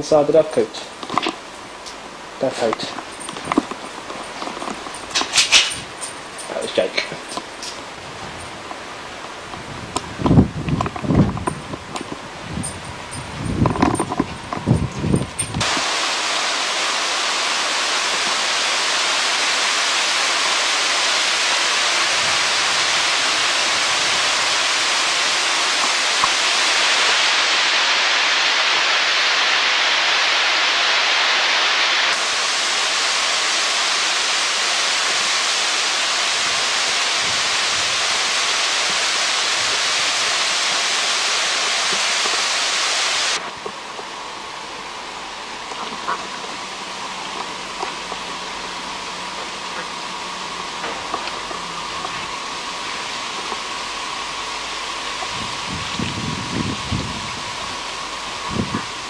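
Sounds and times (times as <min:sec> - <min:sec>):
loud steady hiss: 0:00.0 - 0:59.0.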